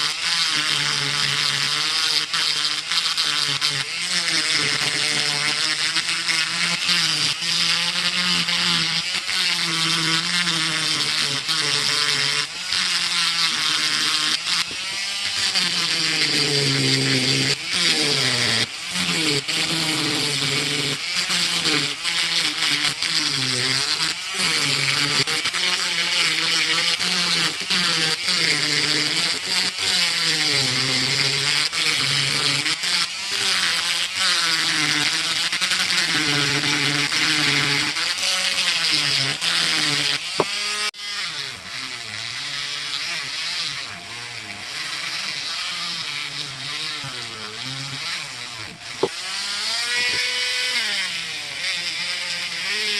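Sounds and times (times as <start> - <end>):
power tool motor buzzing on metal: 0.0 - 52.9.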